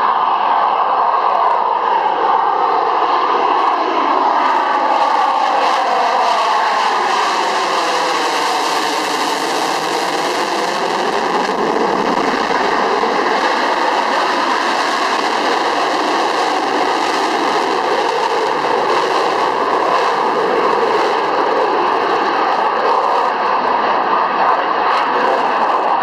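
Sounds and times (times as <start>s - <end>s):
fighter jet engine roaring: 0.0s - 26.0s.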